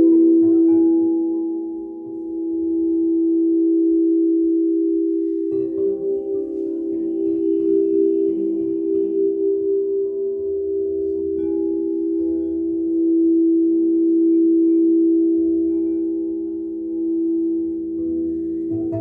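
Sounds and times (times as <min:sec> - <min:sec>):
crystal singing bowls ringing: 0:00.0 - 0:19.0.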